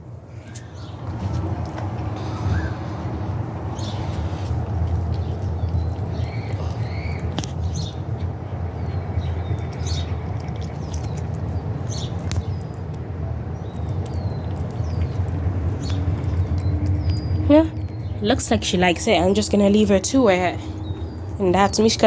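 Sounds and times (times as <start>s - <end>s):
steady low hum: 0.0s - 22.0s
cat chewing and licking: 0.4s - 21.2s.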